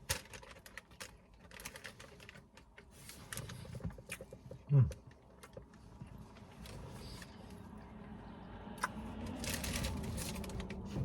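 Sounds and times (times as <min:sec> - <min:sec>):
crunching and rustling: 0:00.0 - 0:07.4, 0:08.8 - 0:11.0.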